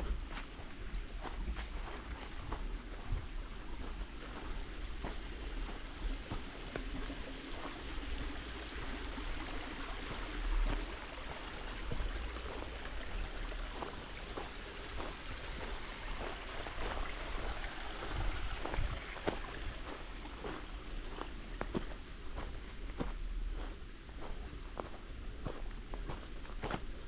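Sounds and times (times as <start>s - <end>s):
running water rushing: 0.1s - 27.0s.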